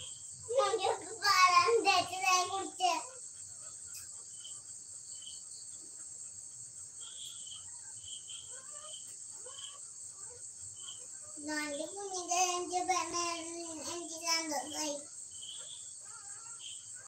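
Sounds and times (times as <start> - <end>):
insects chirring: 0.0 - 17.0
sharp insect chirps: 0.0 - 17.0.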